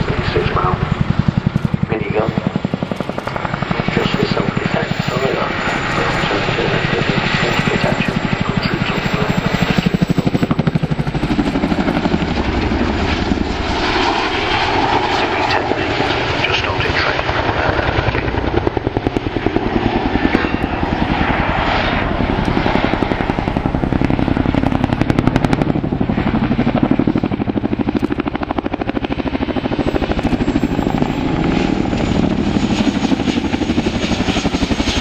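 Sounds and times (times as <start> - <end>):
helicopter rotor blades thumping: 0.0 - 35.0
high turbine whine: 0.0 - 35.0.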